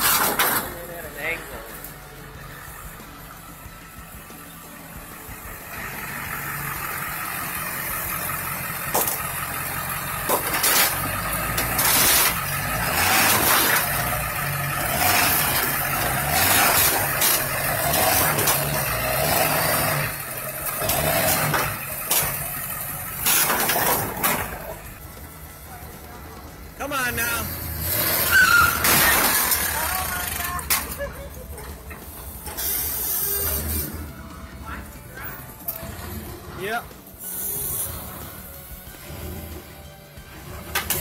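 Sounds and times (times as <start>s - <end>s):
truck engine revving: 0.0s - 41.0s.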